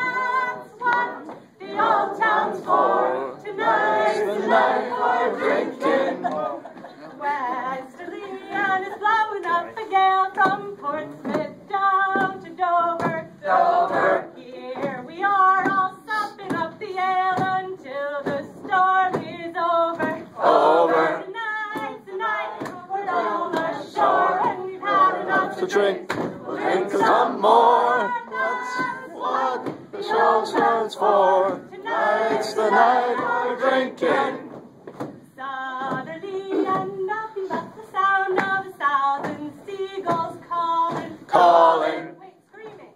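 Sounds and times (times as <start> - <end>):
group singing a sea chanty: 0.0 - 34.6, 35.4 - 42.4.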